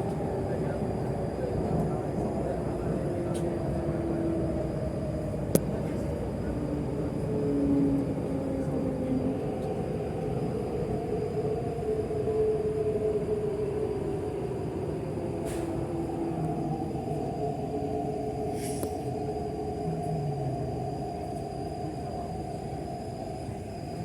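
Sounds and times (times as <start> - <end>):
train equipment rumble and hum: 0.0 - 24.0.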